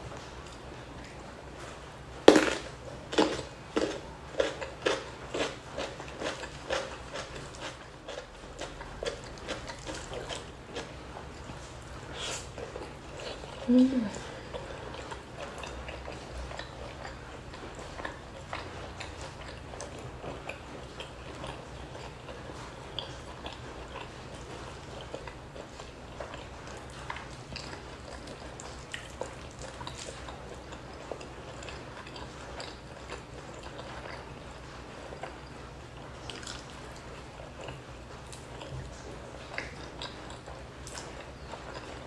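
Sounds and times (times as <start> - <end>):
chewing and wet mouth sounds: 0.0 - 42.0.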